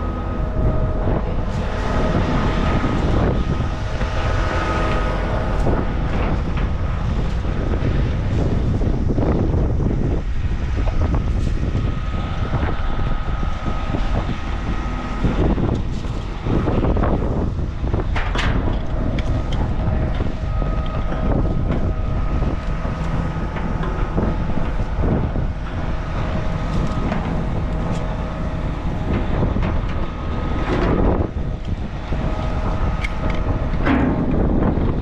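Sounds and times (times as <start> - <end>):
mechanical hum with whine: 0.0 - 35.0
wind buffeting microphone: 0.0 - 35.0.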